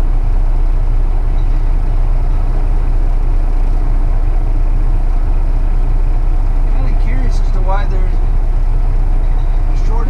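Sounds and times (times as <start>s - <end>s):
truck engine droning: 0.0s - 10.0s.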